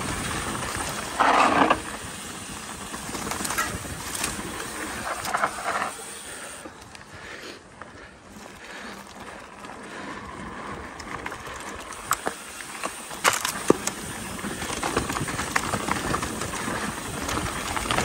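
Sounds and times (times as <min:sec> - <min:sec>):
bike clattering over bumps: 0:00.0 - 0:06.2, 0:08.3 - 0:18.0
bike tyres and wind rushing: 0:00.0 - 0:18.0.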